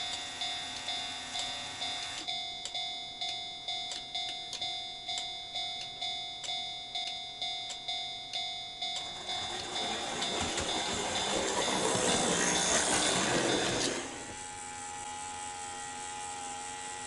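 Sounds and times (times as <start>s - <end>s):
crossing warning bell ringing: 0.0s - 14.5s.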